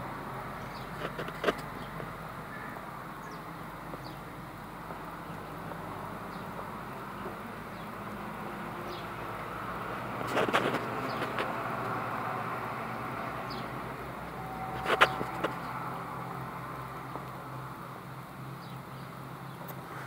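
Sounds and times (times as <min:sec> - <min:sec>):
distant traffic: 0:00.0 - 0:20.0.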